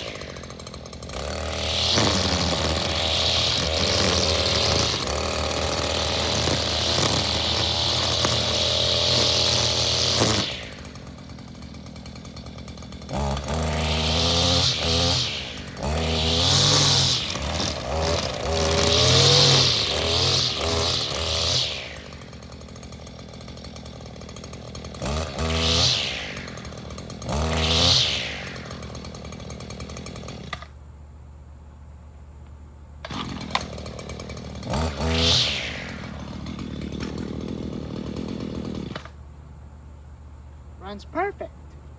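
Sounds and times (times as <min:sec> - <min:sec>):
two-stroke power tool revving: 0:00.0 - 0:30.7, 0:33.0 - 0:39.2.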